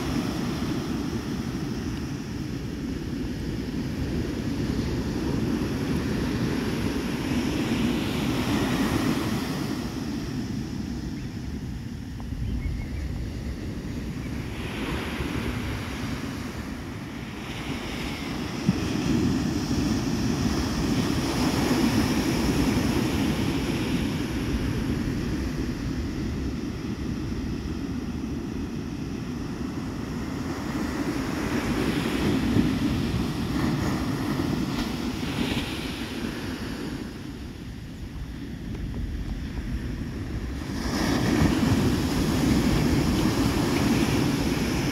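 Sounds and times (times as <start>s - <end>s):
ocean surf breaking on beach: 0.0s - 44.9s
wind buffeting microphone: 0.0s - 44.9s.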